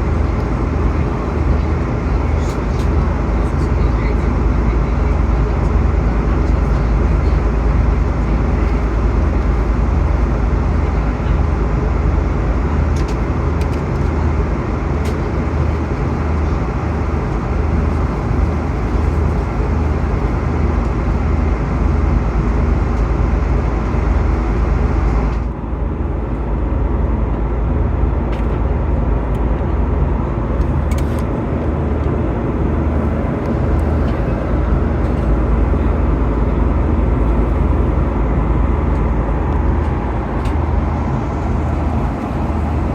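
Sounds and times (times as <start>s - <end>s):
airliner engines rumbling: 0.0s - 42.9s.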